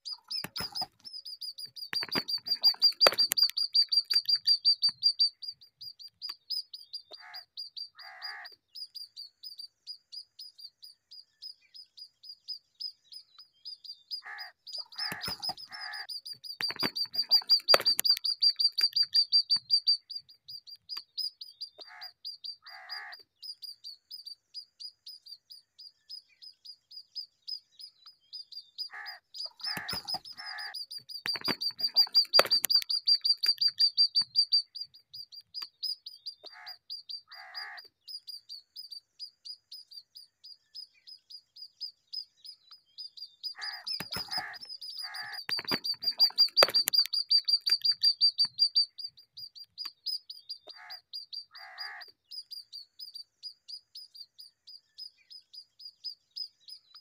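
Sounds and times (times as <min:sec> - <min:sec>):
lower-pitched bird calls: 0:00.0 - 0:55.6
small birds chirping rapidly: 0:00.0 - 0:57.0.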